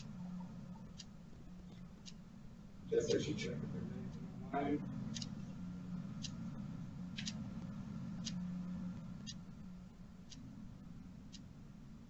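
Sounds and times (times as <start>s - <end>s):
faint regular clicking: 0.0s - 3.2s, 3.8s - 12.0s
low steady hum: 0.0s - 12.0s.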